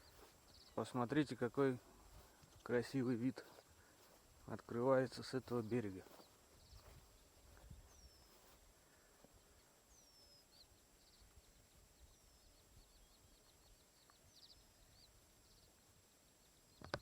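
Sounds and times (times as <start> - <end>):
faint birdsong whistles and chirps: 0.0 - 17.0.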